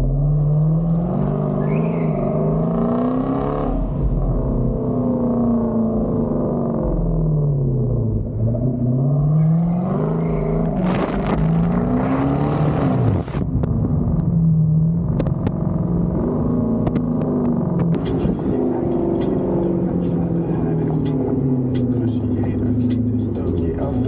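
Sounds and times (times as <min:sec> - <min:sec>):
car exhaust revving: 0:00.0 - 0:24.0.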